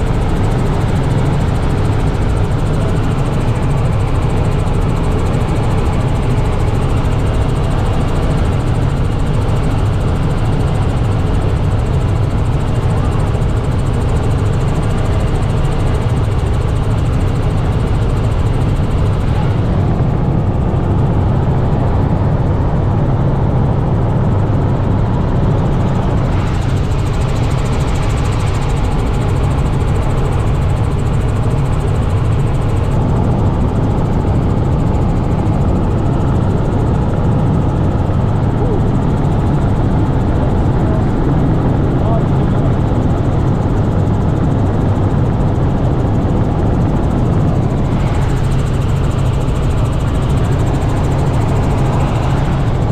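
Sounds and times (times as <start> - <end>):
helicopter rotor and engine drone: 0.0 - 52.9.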